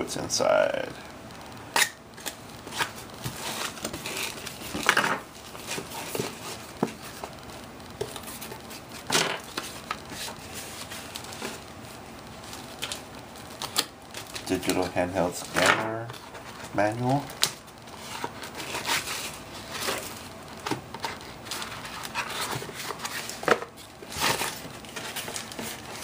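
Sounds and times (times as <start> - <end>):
cardboard and paper packaging rustling: 2.2 - 26.0.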